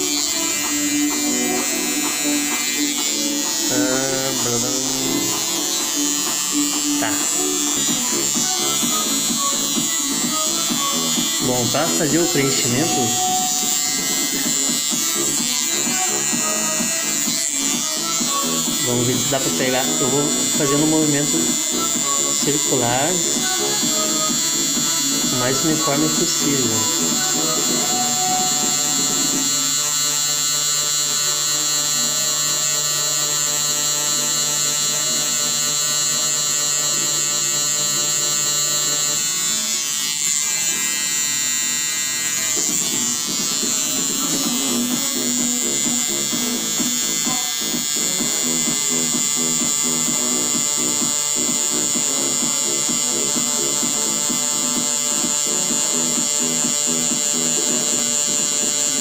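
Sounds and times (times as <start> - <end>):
tattoo machine buzzing: 0.0 - 59.0.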